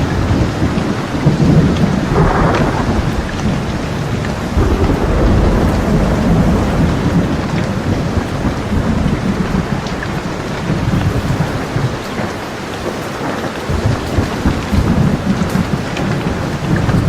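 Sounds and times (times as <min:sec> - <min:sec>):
low rolling thunder: 0:00.0 - 0:12.5, 0:13.7 - 0:17.0
steady rain falling: 0:00.0 - 0:17.0.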